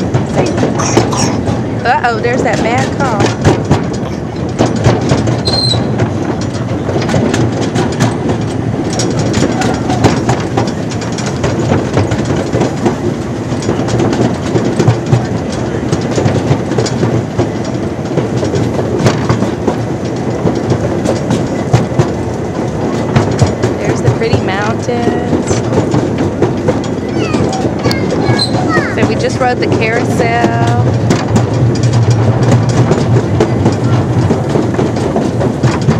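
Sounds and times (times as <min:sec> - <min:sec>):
miniature train rumbling: 0:00.0 - 0:35.9
wheels clicking and rattling: 0:00.0 - 0:35.9.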